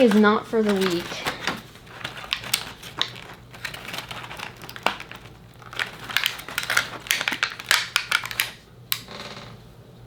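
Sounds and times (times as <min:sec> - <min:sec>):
plastic packaging crinkling: 0:00.0 - 0:08.7
sharp plastic clicks: 0:00.0 - 0:09.1.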